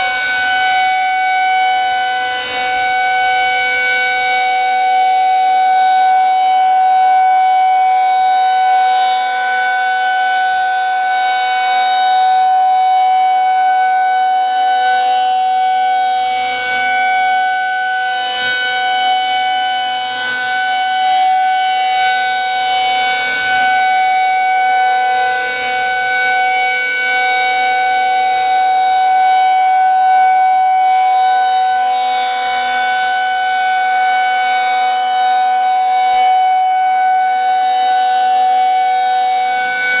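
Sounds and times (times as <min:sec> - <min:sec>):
warning siren steady tone: 0:00.0 - 0:40.0.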